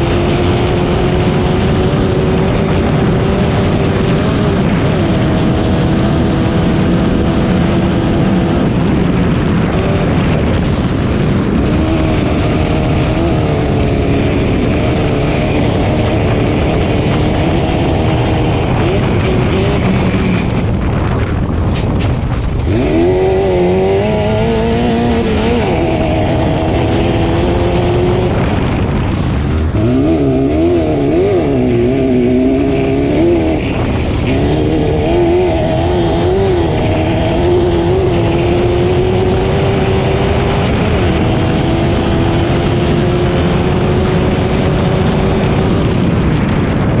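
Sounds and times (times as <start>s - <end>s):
racing engine revving: 0.0s - 47.0s
steady rush of noise: 0.0s - 47.0s.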